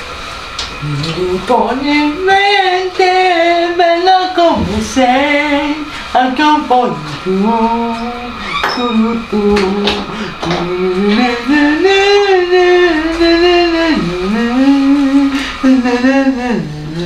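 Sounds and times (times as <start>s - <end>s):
person singing slow melody: 0.8s - 17.0s.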